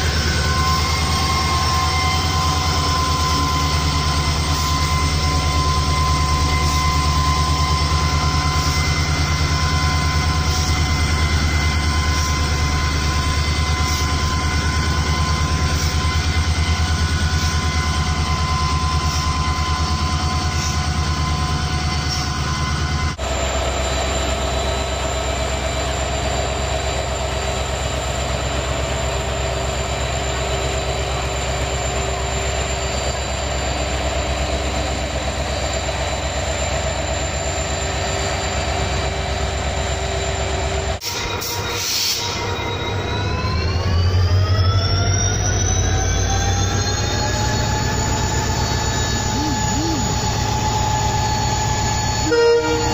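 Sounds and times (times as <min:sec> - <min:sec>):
steady engine sound: 0:00.0 - 0:41.6, 0:42.5 - 0:52.9
diesel locomotive engine running: 0:00.0 - 0:52.9.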